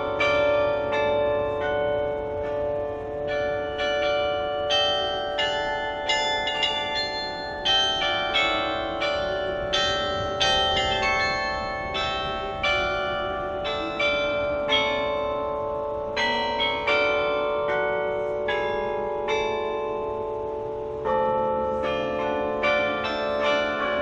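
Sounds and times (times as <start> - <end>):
tower bells playing a tune: 0.0 - 24.0.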